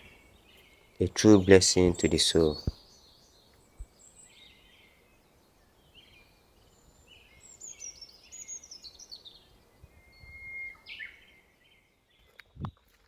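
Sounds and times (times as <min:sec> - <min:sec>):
faint outdoor hiss: 0:00.0 - 0:13.0
wild birds singing: 0:00.0 - 0:13.0.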